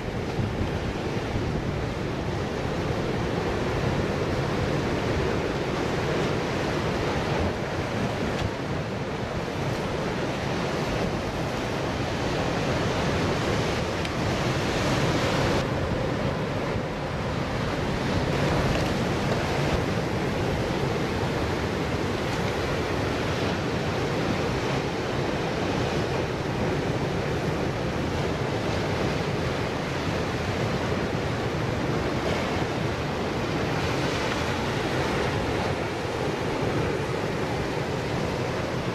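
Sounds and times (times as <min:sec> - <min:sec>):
surf washing over rocks: 0:00.0 - 0:38.9
wind rumbling on microphone: 0:00.0 - 0:38.9.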